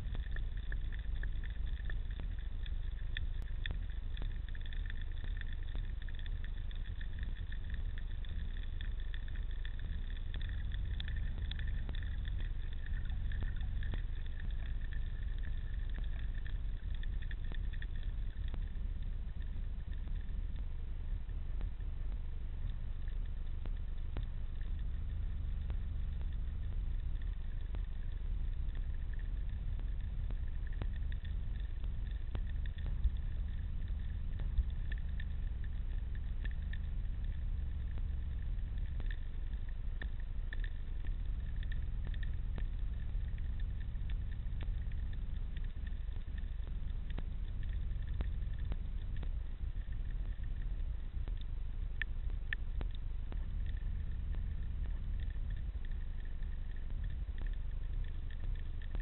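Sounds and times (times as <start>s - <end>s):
faint clicks and crackles: 0.0s - 59.0s
underwater rumble: 0.0s - 59.0s.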